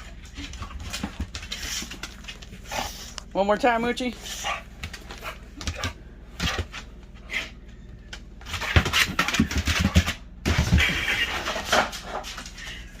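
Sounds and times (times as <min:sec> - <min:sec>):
dog paws scrabbling on floor: 0:00.0 - 0:07.2, 0:08.0 - 0:13.0.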